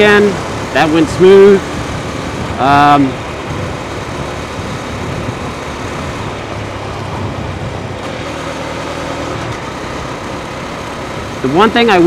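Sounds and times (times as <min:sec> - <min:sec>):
motorcycle engine running: 0:00.0 - 0:12.0
road and traffic noise: 0:00.0 - 0:12.0.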